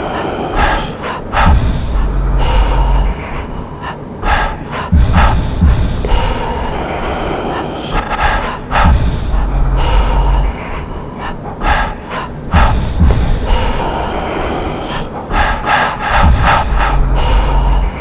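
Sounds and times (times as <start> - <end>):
deep rumble: 0.0 - 18.0.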